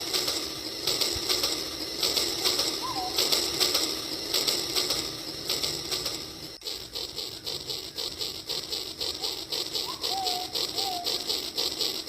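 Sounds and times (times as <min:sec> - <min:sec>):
toy train clattering on track: 0:00.0 - 0:12.0.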